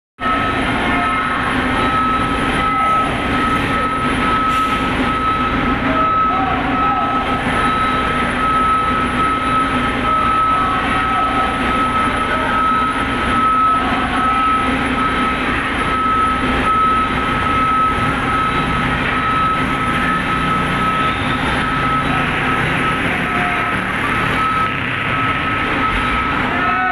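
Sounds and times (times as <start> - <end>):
heavy diesel engines running: 0.2 - 26.9
high-pitched warning tone: 0.2 - 26.9.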